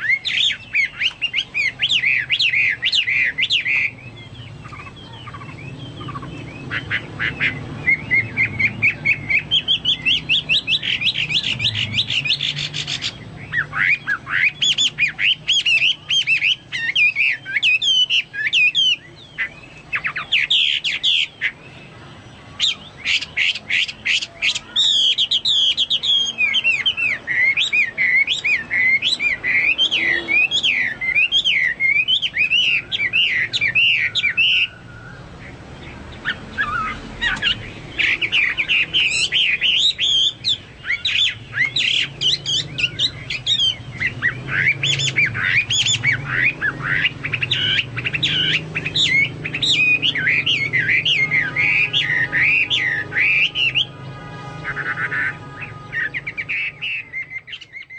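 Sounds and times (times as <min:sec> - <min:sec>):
bird singing whistled notes: 0:00.0 - 0:57.9.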